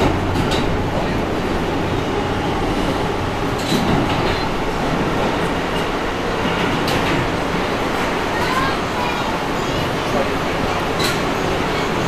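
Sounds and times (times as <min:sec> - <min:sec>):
subway wheels rumbling on rails: 0:00.0 - 0:12.0.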